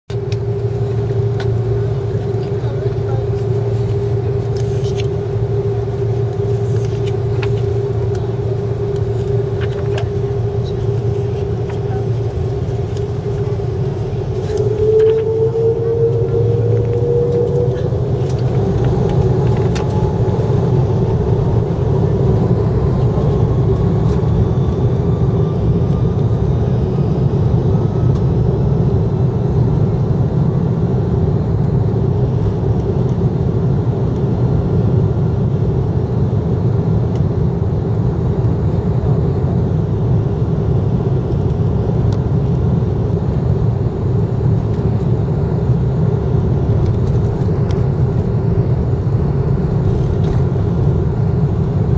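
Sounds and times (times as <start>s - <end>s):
jet engines roaring with rising whine: 0.1s - 51.9s.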